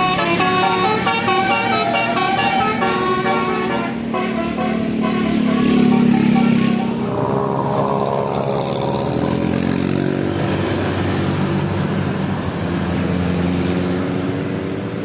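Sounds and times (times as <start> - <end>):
bus engine driving past: 0.0 - 15.0.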